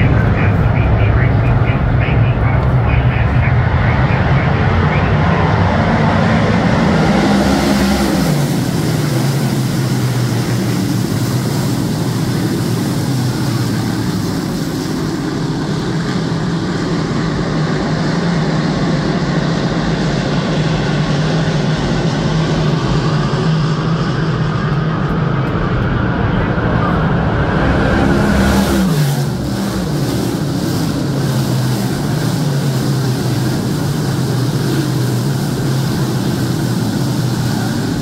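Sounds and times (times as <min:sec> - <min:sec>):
race car engines roaring: 0:00.0 - 0:38.0.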